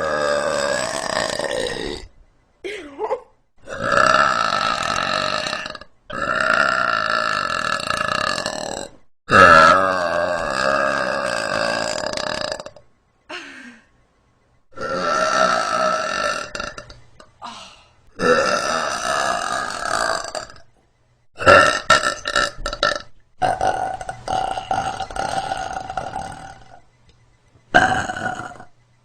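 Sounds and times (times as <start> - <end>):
woman belching: 0.0 - 2.1, 3.7 - 12.8, 14.8 - 20.6, 21.4 - 26.8, 27.8 - 28.7.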